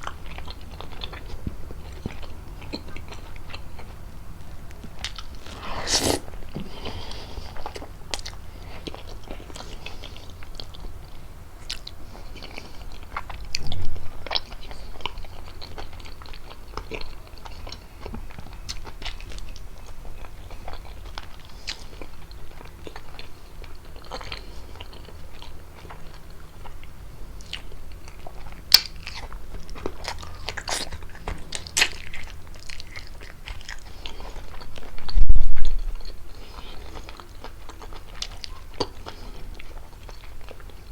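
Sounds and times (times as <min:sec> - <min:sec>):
chewing and biting food: 0:00.0 - 0:40.9.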